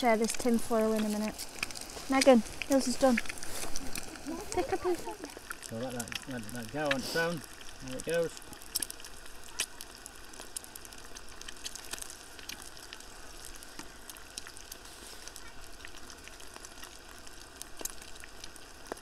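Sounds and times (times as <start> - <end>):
egg sizzling in a pan: 0.0 - 19.0
fat spitting and crackling: 0.0 - 19.0.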